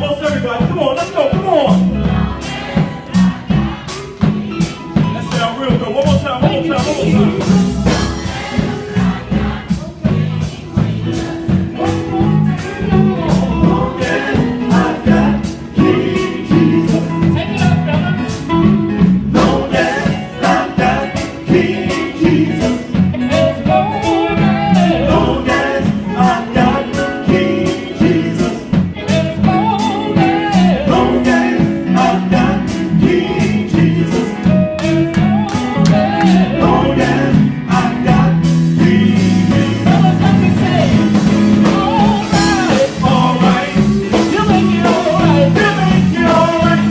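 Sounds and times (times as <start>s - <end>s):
drum beat: 0.0s - 46.9s
gospel group singing with band: 0.0s - 46.9s.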